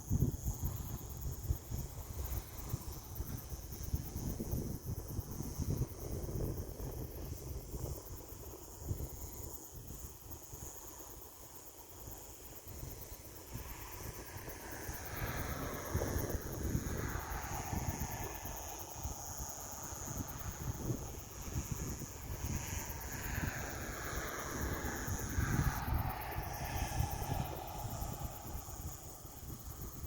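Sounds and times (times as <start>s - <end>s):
insects trilling: 0.0s - 30.0s
wind gusts on microphone: 0.0s - 30.0s.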